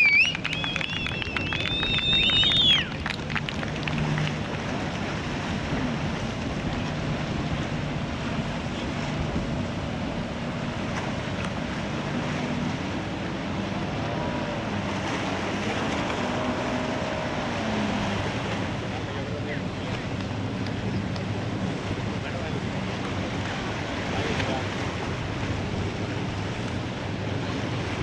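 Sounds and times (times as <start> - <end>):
boat engine hum: 0.0 - 28.0
water and waves: 0.0 - 28.0.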